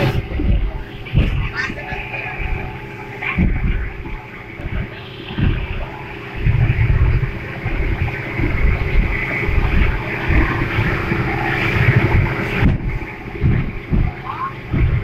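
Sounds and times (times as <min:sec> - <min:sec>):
boat engine drone: 0:00.0 - 0:15.0
water splashing: 0:00.0 - 0:15.0
wind buffeting microphone: 0:00.0 - 0:15.0.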